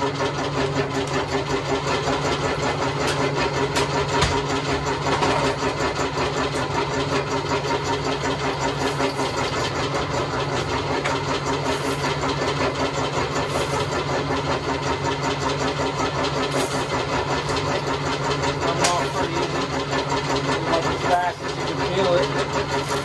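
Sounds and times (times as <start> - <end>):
motor-driven wire stripper humming: 0.0 - 23.0.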